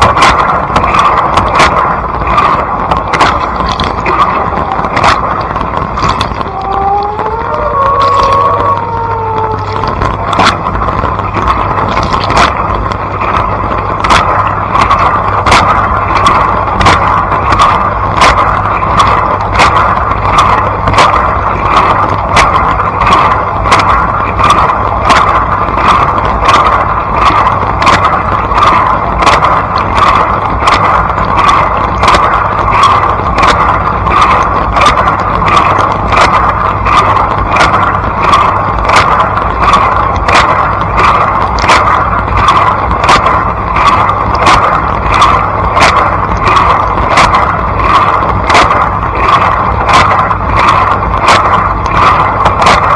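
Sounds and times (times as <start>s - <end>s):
low pump hum: 0.0s - 52.9s.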